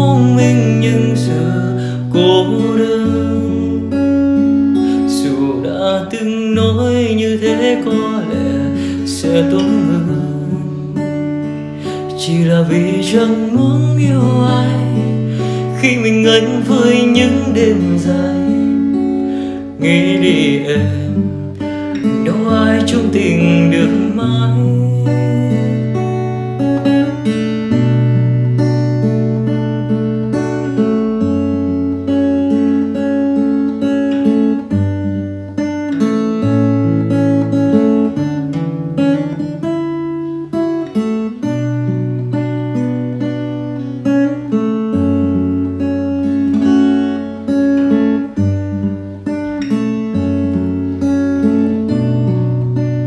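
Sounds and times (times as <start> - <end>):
acoustic guitar picking and strumming: 0.0 - 53.0.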